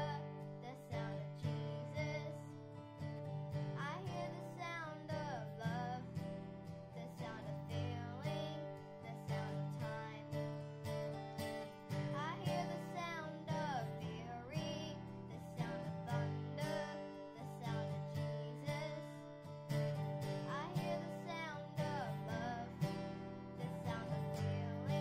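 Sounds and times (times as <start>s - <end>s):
boy singing: 0.0s - 2.7s, 3.8s - 6.2s, 6.9s - 10.5s, 12.0s - 19.3s, 20.4s - 23.0s, 23.6s - 25.0s
acoustic guitar strumming: 0.0s - 25.0s.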